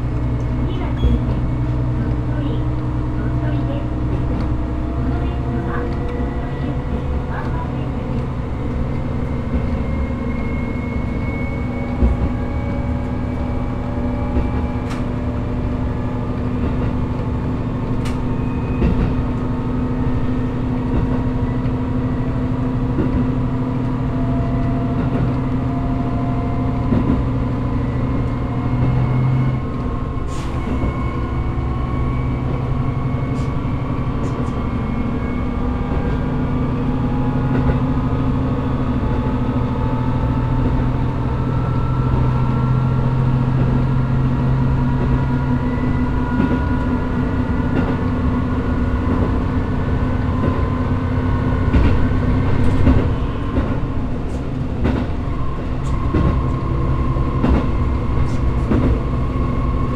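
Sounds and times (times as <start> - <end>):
diesel railcar engine: 0.0 - 59.9
wheels rumbling on rails: 0.0 - 59.9.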